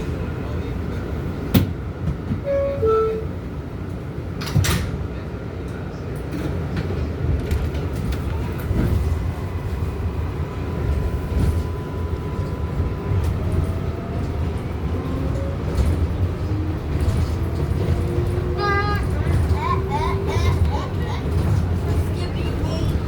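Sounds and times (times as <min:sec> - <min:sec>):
wheels rumbling on rail: 0:00.0 - 0:23.0.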